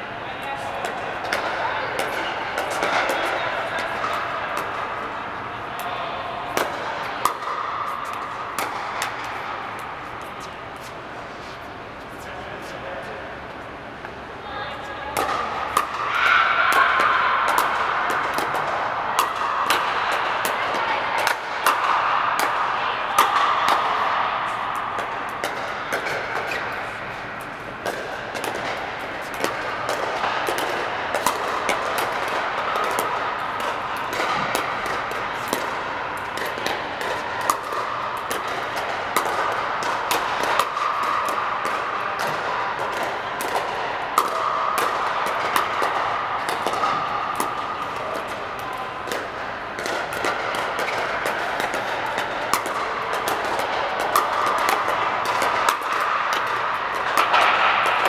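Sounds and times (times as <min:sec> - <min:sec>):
background noise: 0:00.0 - 0:58.0.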